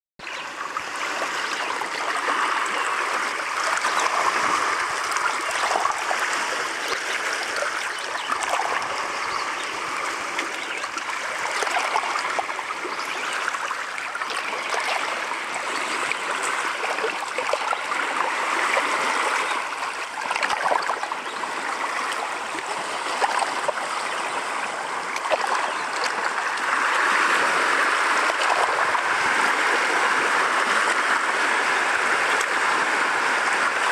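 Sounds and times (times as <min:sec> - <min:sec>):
waves lapping against rocks: 0:00.5 - 0:33.9.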